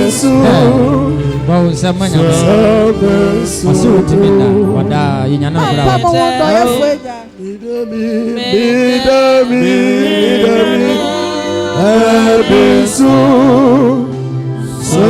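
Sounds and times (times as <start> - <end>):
person singing gospel: 0.0 - 15.0.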